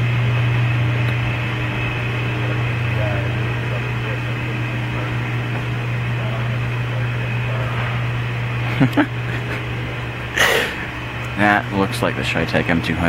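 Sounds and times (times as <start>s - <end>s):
low-pitched machine hum: 0.0s - 13.0s.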